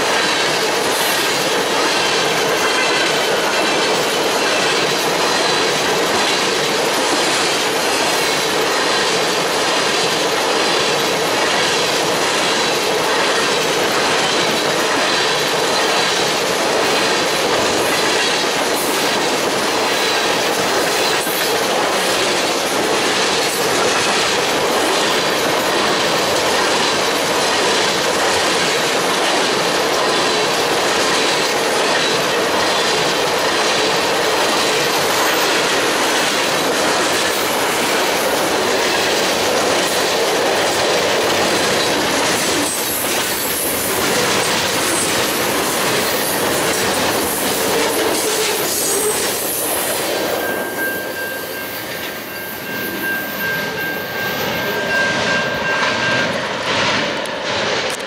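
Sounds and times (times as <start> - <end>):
steel train wheels on rails: 0.0 - 58.0.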